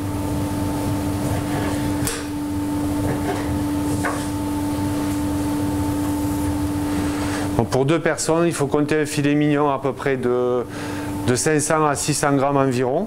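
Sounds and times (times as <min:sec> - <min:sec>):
kitchen ventilation hum: 0:00.0 - 0:13.0.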